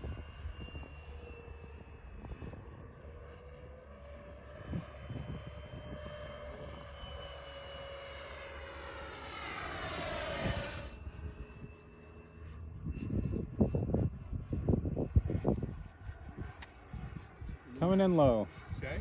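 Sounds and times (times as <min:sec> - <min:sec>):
model airplane motors whining: 0:00.0 - 0:19.0.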